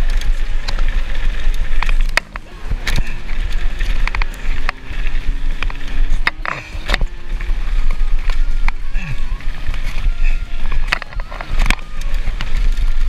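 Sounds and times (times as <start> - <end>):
mountain bike rattling: 0.0 - 13.0
wind rumbling on microphone: 0.0 - 13.0.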